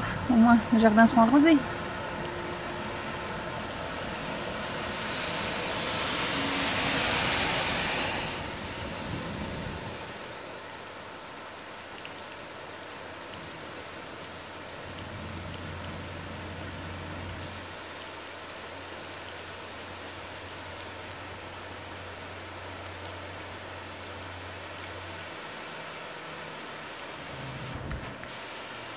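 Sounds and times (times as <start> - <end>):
heavy rain on road: 0.0 - 28.9.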